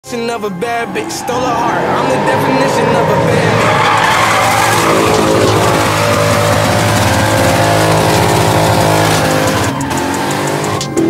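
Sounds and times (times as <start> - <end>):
music playing: 0.0 - 11.0
tyres squealing on asphalt: 0.1 - 11.0
car engine at high revs: 0.8 - 11.0.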